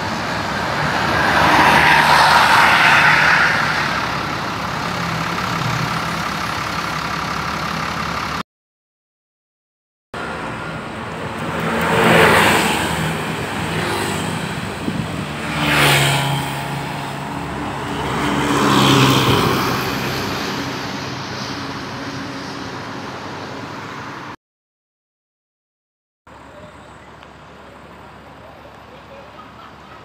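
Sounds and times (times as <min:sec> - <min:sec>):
steady engine hum: 0:00.0 - 0:08.4, 0:10.2 - 0:24.3, 0:26.3 - 0:30.0
vehicles passing: 0:00.0 - 0:08.4, 0:10.2 - 0:24.4, 0:26.3 - 0:30.0.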